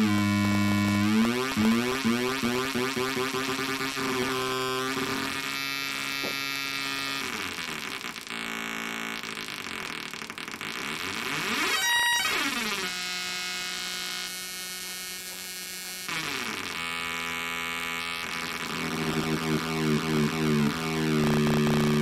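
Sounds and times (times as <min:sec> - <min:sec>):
harsh electronic synth buzz: 0:00.0 - 0:22.0.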